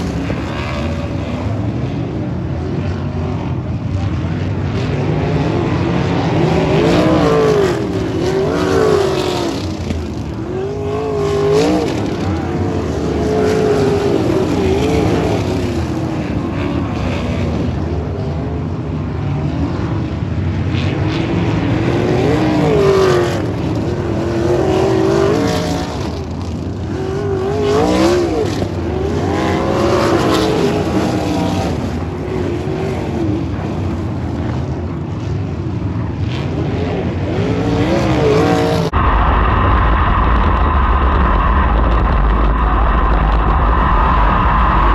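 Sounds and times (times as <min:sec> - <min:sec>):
race car engines passing: 0:00.0 - 0:44.9.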